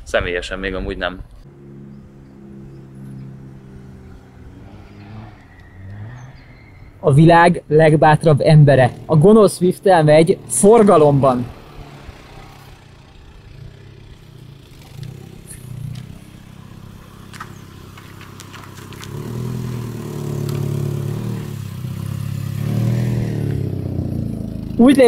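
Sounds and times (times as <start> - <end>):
car engine humming: 1.4 - 25.0.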